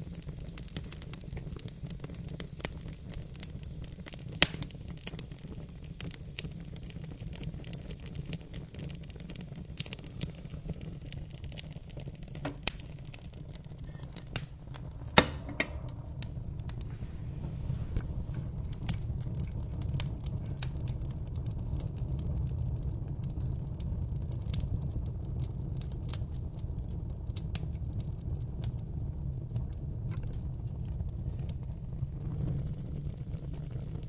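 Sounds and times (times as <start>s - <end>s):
fire popping: 0.0s - 34.0s
wood fire crackling: 0.0s - 34.0s.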